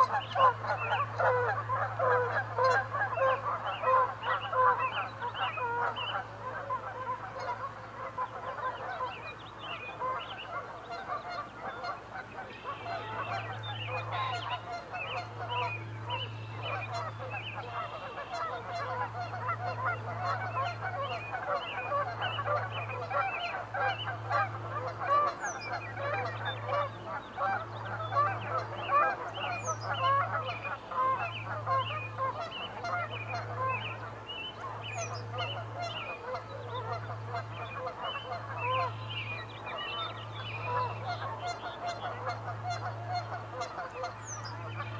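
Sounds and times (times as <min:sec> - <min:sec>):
geese honking: 0:00.0 - 0:44.9.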